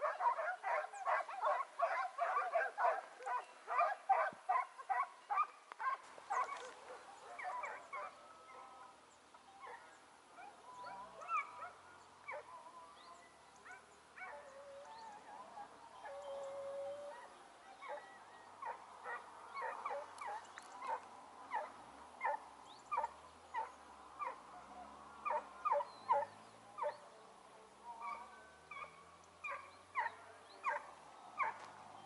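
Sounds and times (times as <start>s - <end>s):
hounds baying: 0.0s - 9.0s, 9.6s - 13.0s, 13.6s - 27.0s, 27.9s - 31.8s.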